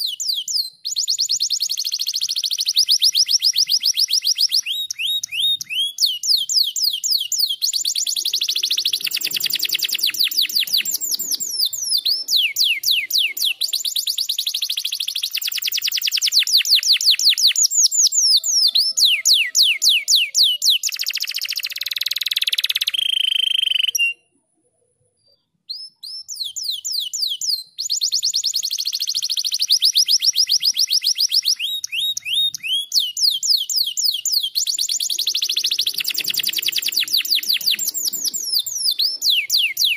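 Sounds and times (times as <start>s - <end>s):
canary trilling: 0.9s - 24.2s, 27.8s - 39.9s.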